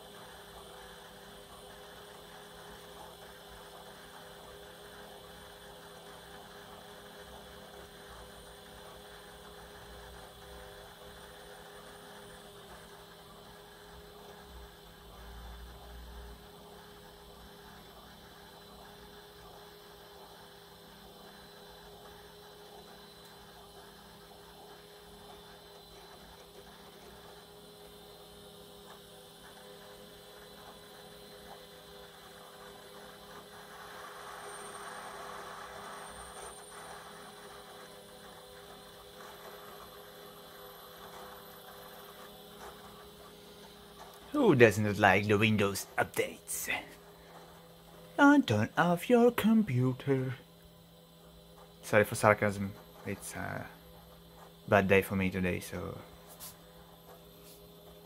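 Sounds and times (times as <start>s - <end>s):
server cooling fans whirring: 0.0s - 58.0s.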